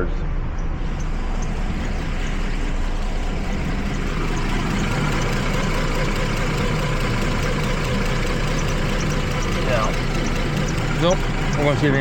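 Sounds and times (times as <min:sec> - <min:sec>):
misfiring engine idling: 0:00.8 - 0:12.0.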